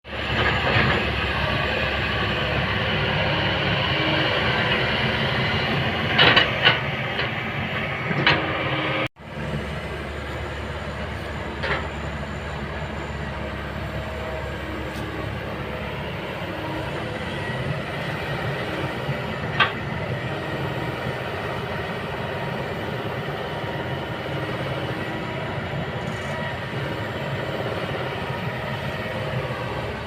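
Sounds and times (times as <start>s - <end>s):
excavator diesel engine rumble: 0.1s - 30.0s.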